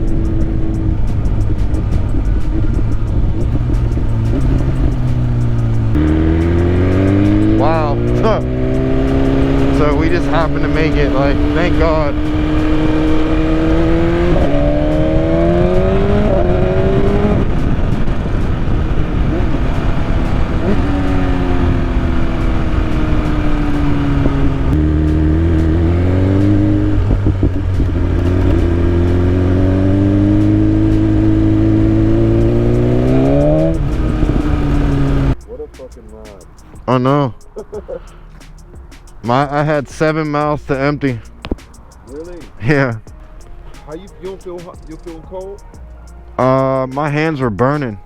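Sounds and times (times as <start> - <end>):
motorcycle engine revving: 0.0 - 35.4, 36.2 - 45.8
wind and road noise: 0.0 - 48.0.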